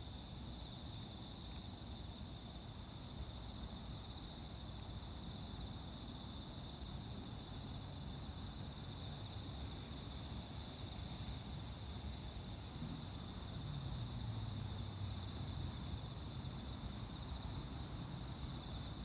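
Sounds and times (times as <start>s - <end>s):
high insect chirp: 0.0s - 19.0s
insects trilling: 0.0s - 19.0s.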